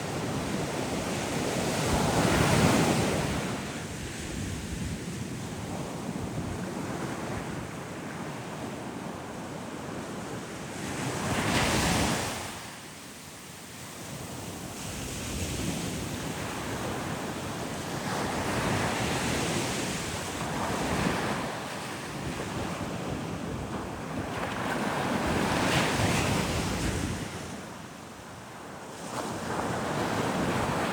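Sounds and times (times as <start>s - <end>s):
ocean waves breaking on beach: 0.0s - 30.9s.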